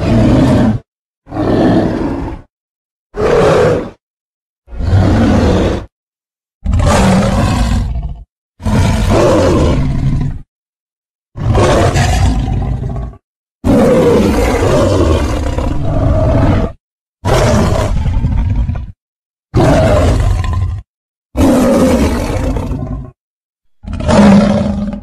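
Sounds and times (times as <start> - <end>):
creature roars: 0.0 - 2.5, 3.2 - 4.0, 4.7 - 5.9, 6.6 - 10.5, 11.4 - 19.0, 19.6 - 23.2, 23.8 - 25.0.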